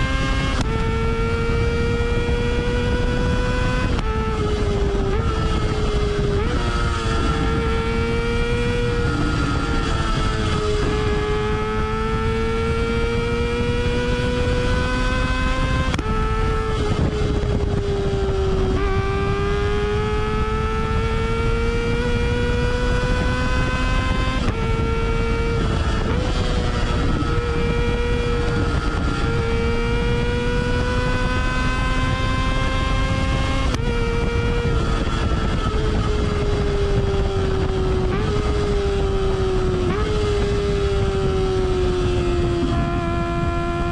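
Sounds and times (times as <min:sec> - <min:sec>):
motorcycle engine revving: 0:00.0 - 0:43.9
wind rush: 0:00.0 - 0:43.9.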